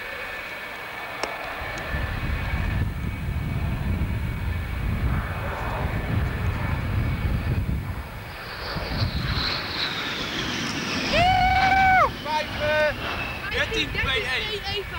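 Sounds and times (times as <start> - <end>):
jet engine high whine: 0.0 - 14.9
jet engine rumble: 0.0 - 14.9.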